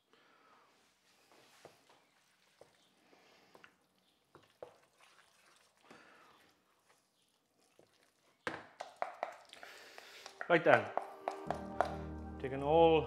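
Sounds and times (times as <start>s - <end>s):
risotto squelching: 1.5s - 12.7s.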